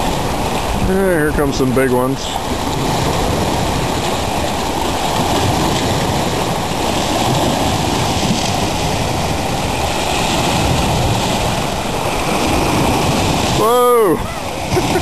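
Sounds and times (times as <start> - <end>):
waves breaking on shore: 0.0 - 15.0
wind rumbling on microphone: 0.0 - 15.0.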